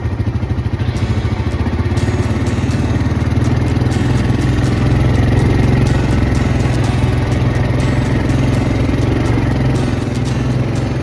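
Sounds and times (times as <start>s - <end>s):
atv engine low throb: 0.0s - 11.0s.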